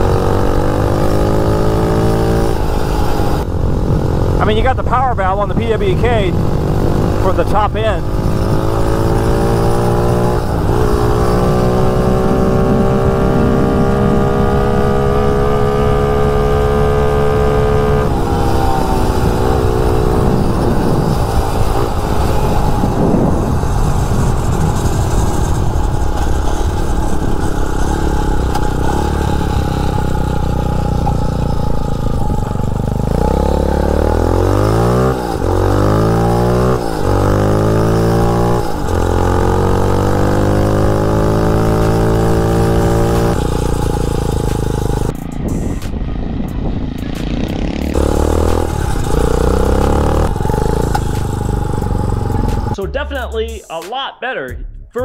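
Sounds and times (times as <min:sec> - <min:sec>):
dirt bike engine revving: 0:00.0 - 0:45.9, 0:46.8 - 0:53.5.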